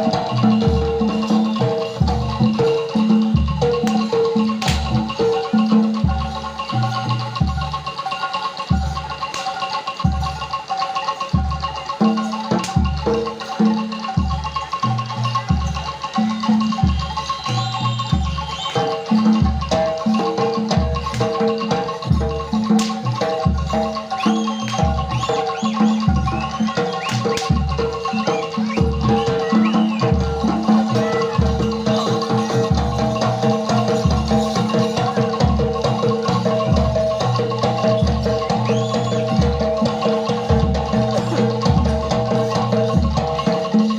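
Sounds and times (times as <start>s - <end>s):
mallet-struck metal keys: 0.0s - 8.0s, 8.6s - 43.9s
drums playing: 0.0s - 43.9s.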